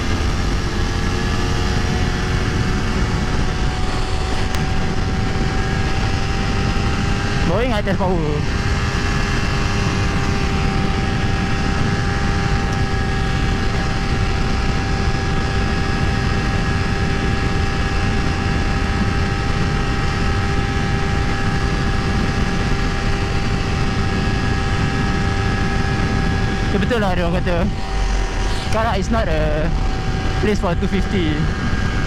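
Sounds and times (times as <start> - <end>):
motorcycle engine at full throttle: 0.0 - 32.0
wind rushing noise: 0.0 - 32.0.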